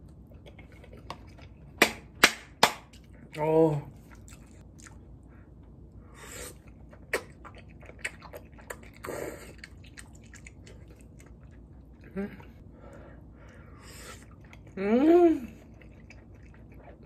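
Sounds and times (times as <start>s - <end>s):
chewing with mouth smacks: 0.0s - 1.8s, 2.8s - 5.8s, 6.4s - 12.6s, 13.5s - 14.8s, 15.5s - 17.0s.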